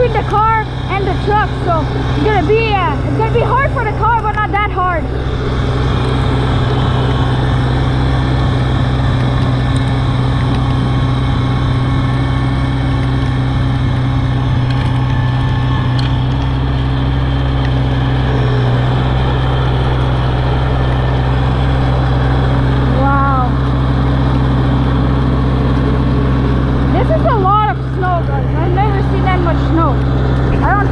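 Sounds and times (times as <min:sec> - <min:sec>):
tractor engine droning: 0:00.0 - 0:30.9.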